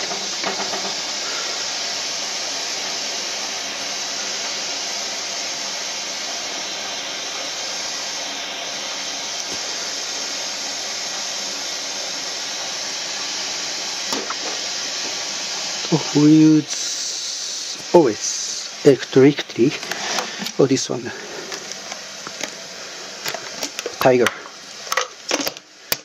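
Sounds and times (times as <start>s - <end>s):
kettle steam hissing: 0.0s - 26.0s.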